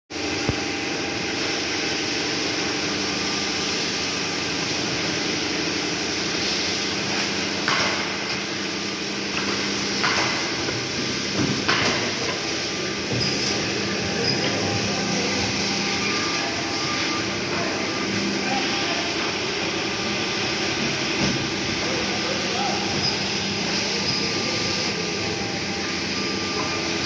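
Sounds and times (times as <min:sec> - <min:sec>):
machine mechanical hum: 0:00.1 - 0:27.0.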